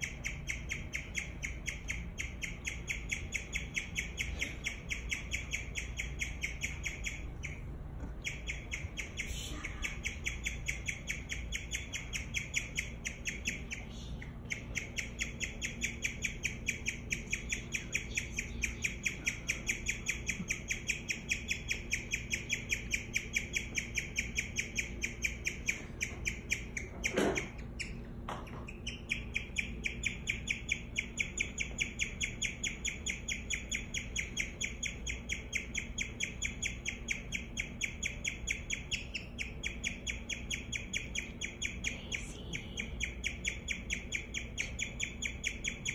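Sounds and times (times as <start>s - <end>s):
guinea pig chirping: 0.0s - 45.9s.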